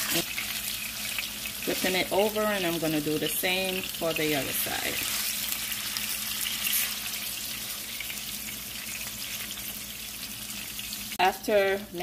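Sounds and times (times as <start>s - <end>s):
fish sizzling in hot oil: 0.0s - 11.7s.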